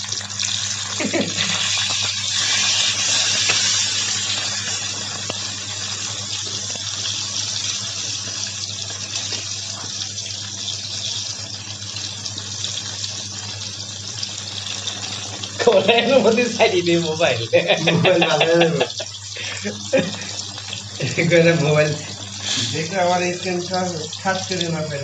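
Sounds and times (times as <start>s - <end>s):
fish deep-frying in hot oil: 0.0s - 25.0s.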